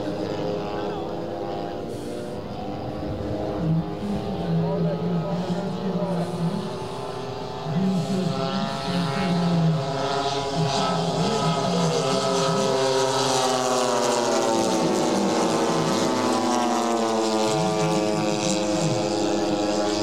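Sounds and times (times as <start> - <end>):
model plane propeller engines droning: 0.0 - 20.0.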